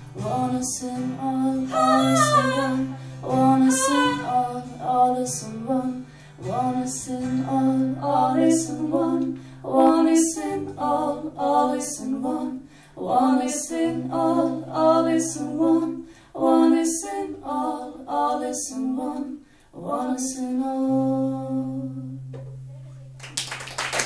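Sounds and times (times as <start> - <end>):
woman singing: 0.1 - 22.3.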